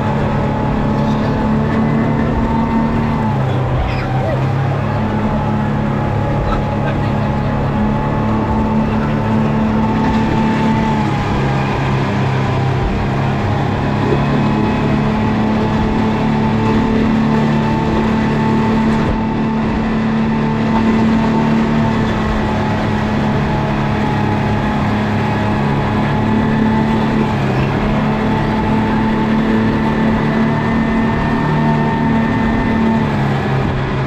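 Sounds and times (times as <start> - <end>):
motorboat engine running: 0.0 - 34.0
rushing noise: 0.0 - 34.0.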